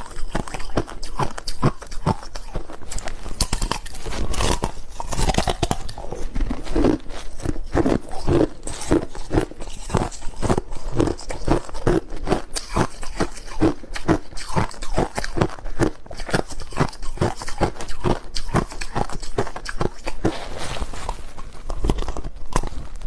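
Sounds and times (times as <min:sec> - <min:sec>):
crushed ice being chewed: 0:00.0 - 0:23.0.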